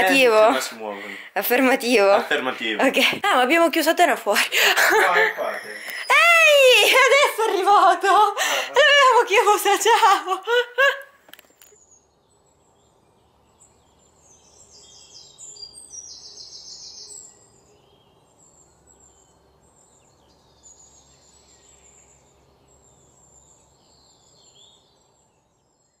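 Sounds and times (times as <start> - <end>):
birds chirping: 0.0 - 26.0
low steady background noise: 0.0 - 26.0.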